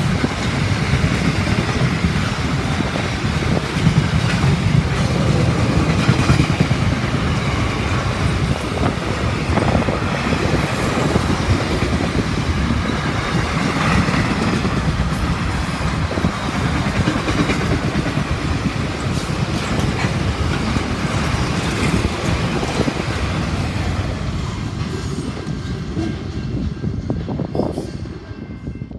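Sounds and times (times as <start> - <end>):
freight train rolling past: 0.0 - 28.9.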